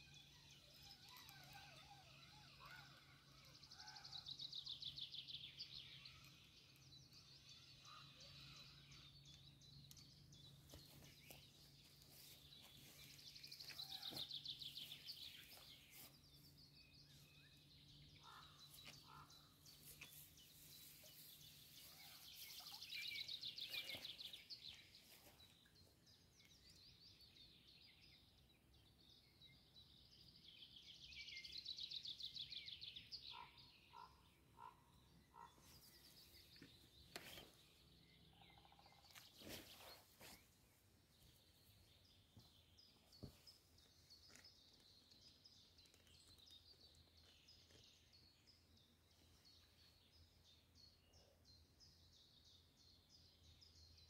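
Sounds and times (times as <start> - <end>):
songbird trill: 0.0 - 54.0.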